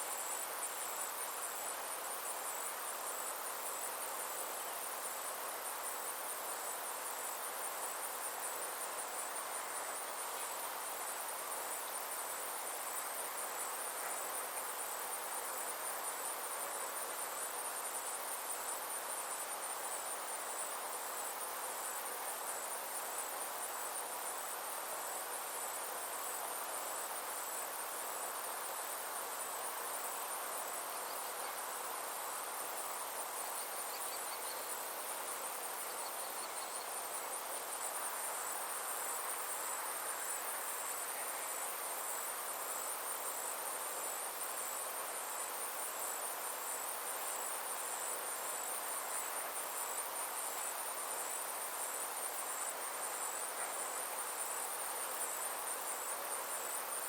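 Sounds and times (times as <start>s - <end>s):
insects trilling: 0.0s - 57.0s
steady rushing hiss: 0.0s - 57.0s.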